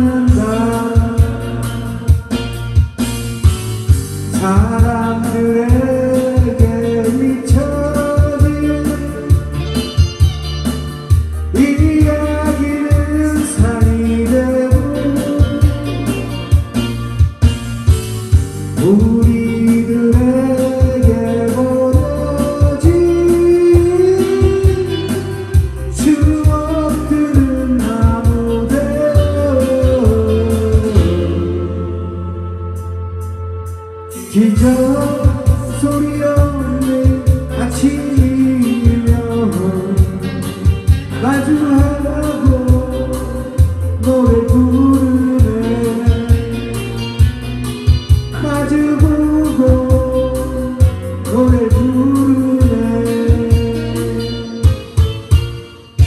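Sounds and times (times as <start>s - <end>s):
man singing into a microphone: 0.0s - 2.6s, 3.8s - 17.4s, 18.4s - 32.8s, 34.0s - 47.4s, 48.3s - 55.1s
karaoke backing track: 0.0s - 56.0s.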